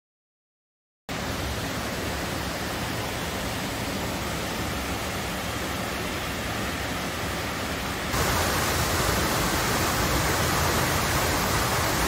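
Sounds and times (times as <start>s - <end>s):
waterfall rushing: 1.1s - 12.0s.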